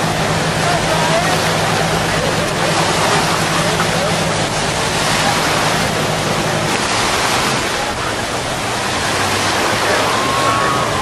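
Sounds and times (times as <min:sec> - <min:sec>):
surf rushing: 0:00.0 - 0:11.0
tractor engine humming: 0:00.0 - 0:11.0.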